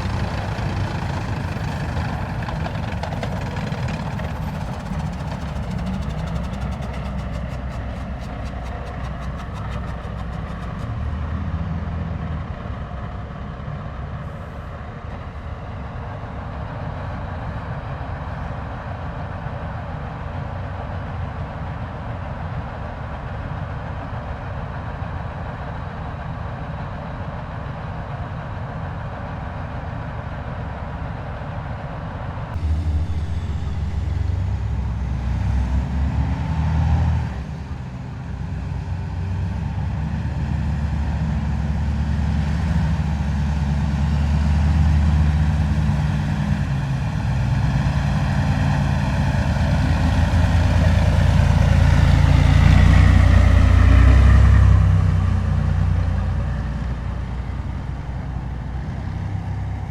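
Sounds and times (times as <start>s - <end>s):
heavy diesel vehicles driving past: 0.0s - 22.9s, 32.5s - 59.9s.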